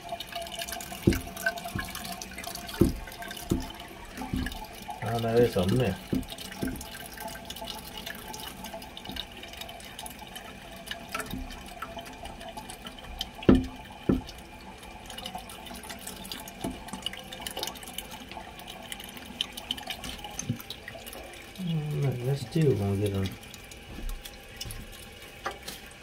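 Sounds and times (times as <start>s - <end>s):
water trickling in toilet tank: 0.0s - 26.0s.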